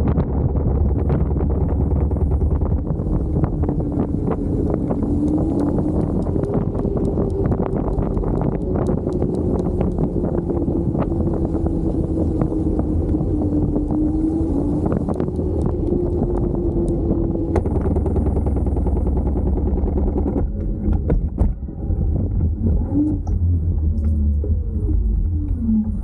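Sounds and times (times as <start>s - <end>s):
road rumble: 0.0s - 26.0s
wind noise: 0.0s - 26.0s
sharp clicks and rattles: 0.3s - 24.2s
electric scooter motor whine: 0.5s - 26.0s.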